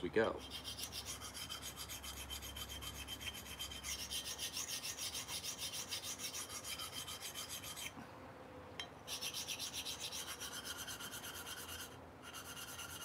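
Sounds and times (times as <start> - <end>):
knife scraping on sharpening stone: 0.4 - 7.9, 8.8 - 13.0.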